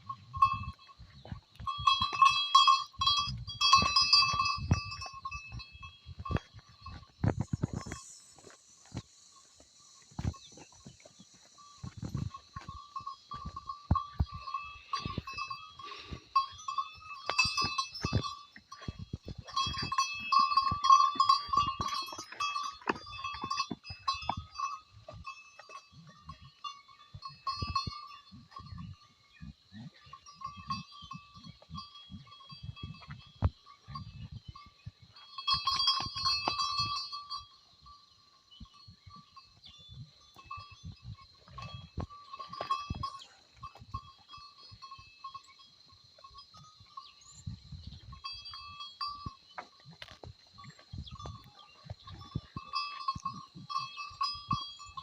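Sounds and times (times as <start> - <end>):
goats: 0.0 - 55.0.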